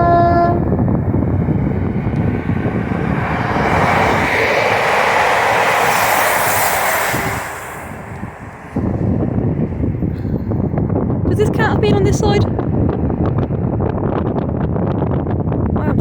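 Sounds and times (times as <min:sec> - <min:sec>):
train wheels on rails: 0:00.7 - 0:13.6.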